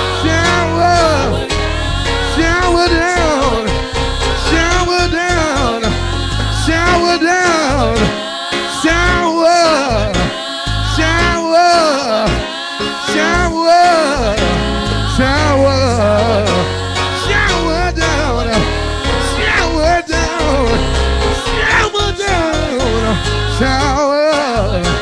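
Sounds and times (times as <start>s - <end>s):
instrumental backing heavy bass: 0.0s - 8.2s, 8.8s - 11.5s, 12.3s - 24.0s, 24.6s - 25.0s
choir singing gospel: 0.0s - 25.0s.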